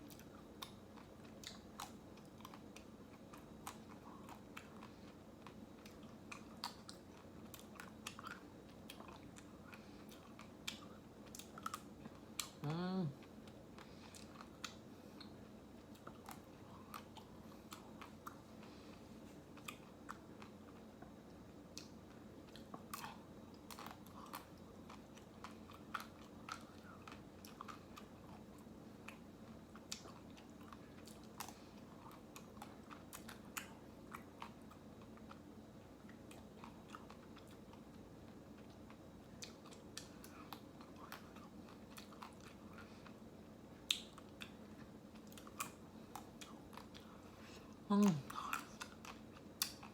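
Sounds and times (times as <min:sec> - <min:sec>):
person eating ice cream: 0:00.0 - 0:49.9
steady low hum: 0:00.0 - 0:49.9.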